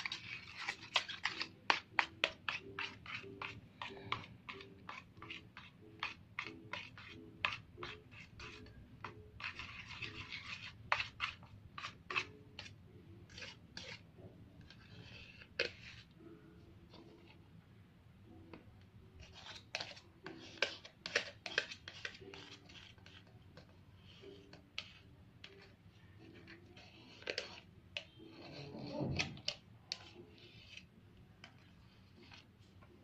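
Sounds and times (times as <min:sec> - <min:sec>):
utensil scraping a bowl: 0:00.0 - 0:17.4, 0:19.2 - 0:32.8.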